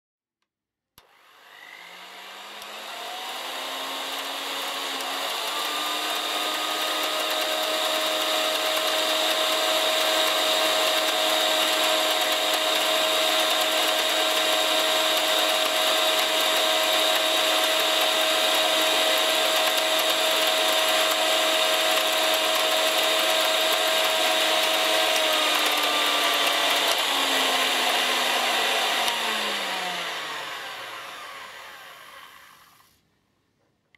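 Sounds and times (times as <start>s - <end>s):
electric hand mixer motor whine: 1.0s - 33.0s.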